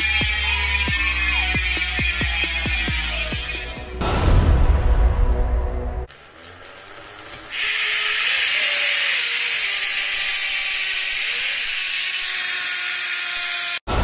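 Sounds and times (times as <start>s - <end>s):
bicycle freewheel buzzing: 0.0s - 3.9s, 6.1s - 13.8s.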